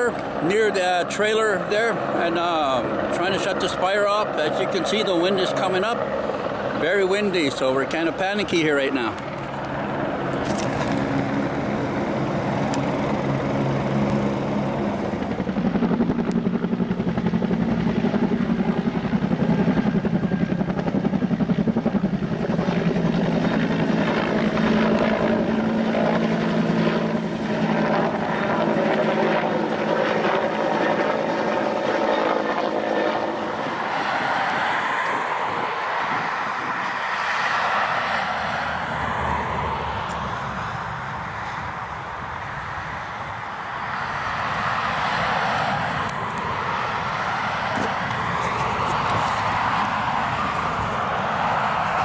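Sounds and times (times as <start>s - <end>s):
helicopter rotor beat: 0.0s - 52.0s.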